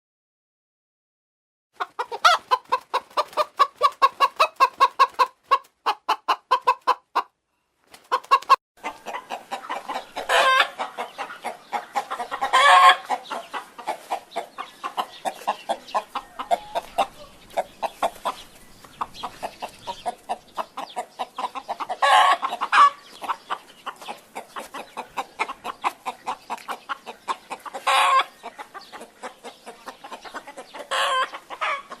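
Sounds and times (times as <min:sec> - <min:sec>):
hen clucking: 0:01.8 - 0:07.4, 0:08.0 - 0:32.0.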